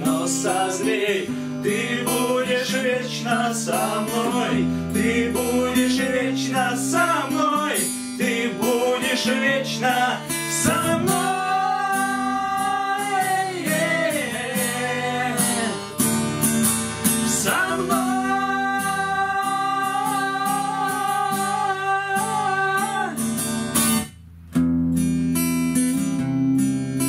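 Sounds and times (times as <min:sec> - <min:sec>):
men singing wordless notes: 0:00.0 - 0:16.0, 0:17.1 - 0:23.2
acoustic guitar strumming: 0:00.0 - 0:27.0.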